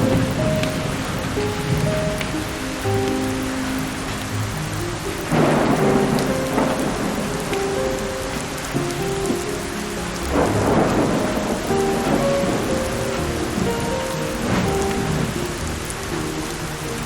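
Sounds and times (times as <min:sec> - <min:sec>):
steady rain: 0:00.0 - 0:17.0
thunder rolling: 0:00.0 - 0:17.0.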